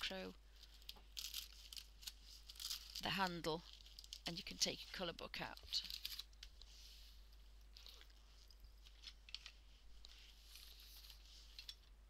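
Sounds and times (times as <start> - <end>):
faint rustling: 0.5 - 11.9.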